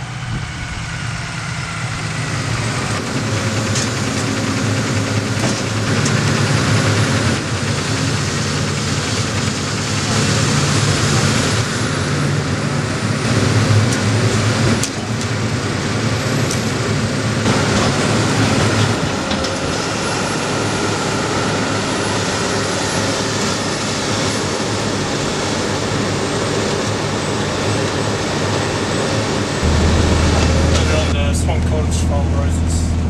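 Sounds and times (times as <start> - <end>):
heavy diesel engines running: 0.0 - 33.0.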